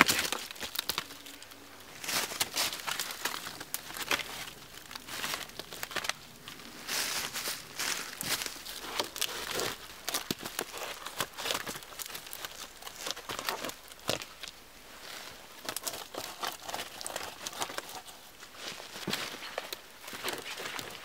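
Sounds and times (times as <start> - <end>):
bark and sticks crackling: 0.0 - 14.6, 15.5 - 21.0.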